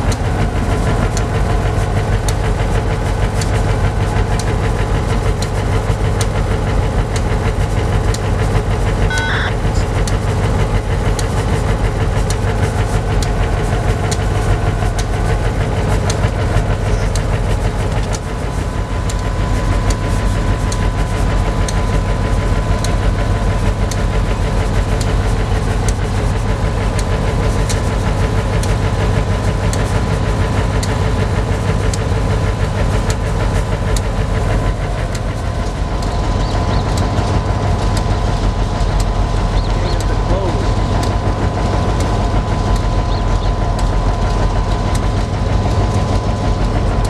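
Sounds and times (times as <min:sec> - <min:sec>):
diesel locomotive engine idling: 0:00.0 - 0:47.0.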